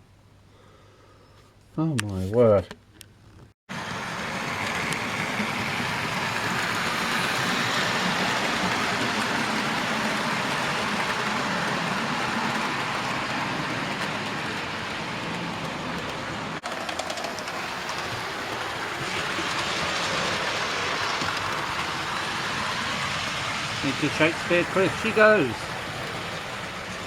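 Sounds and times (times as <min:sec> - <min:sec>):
model train running on track: 0:03.7 - 0:27.0.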